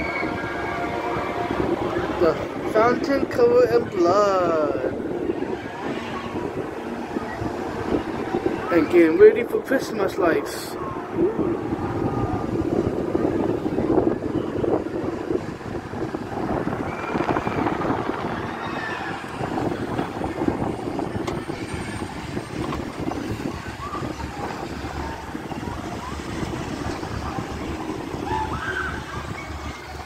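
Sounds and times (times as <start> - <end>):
rumbling wind: 0.0 - 30.0
faint distant voices: 4.2 - 30.0.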